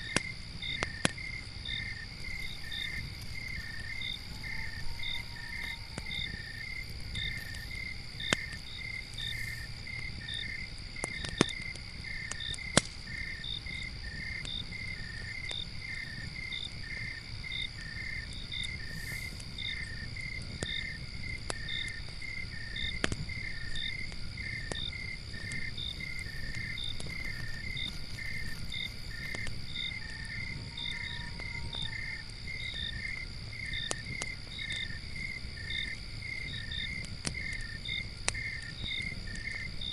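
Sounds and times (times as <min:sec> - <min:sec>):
campfire crackling: 0:00.0 - 0:39.9
crickets chirping: 0:00.0 - 0:39.9
high insect trill: 0:00.0 - 0:39.9.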